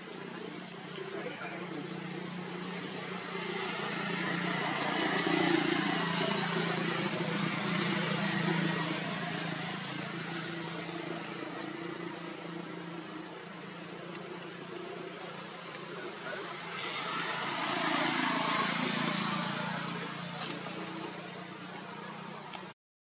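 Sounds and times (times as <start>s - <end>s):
low motor hum: 0.0s - 22.7s.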